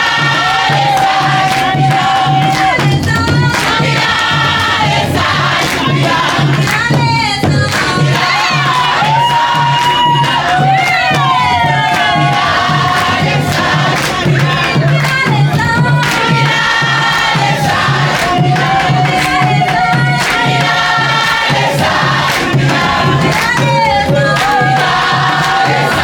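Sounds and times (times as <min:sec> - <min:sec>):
congregation and choir singing: 0:00.0 - 0:26.0
music with steady low beat: 0:00.1 - 0:26.0.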